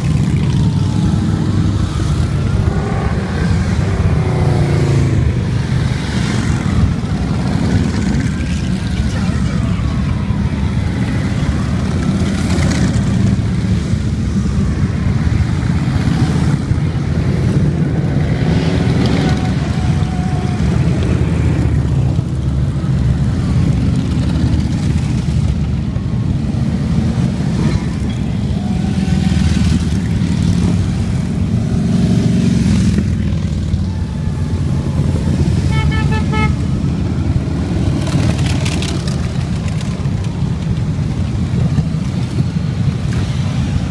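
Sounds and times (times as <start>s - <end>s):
motorcycles passing: 0.0s - 43.9s.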